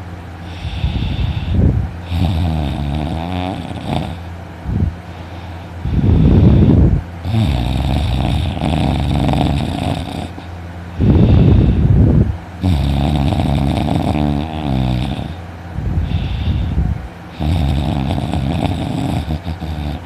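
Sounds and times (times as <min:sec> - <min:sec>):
man snoring heavily: 0:00.4 - 0:04.4, 0:05.1 - 0:15.4, 0:16.0 - 0:20.0.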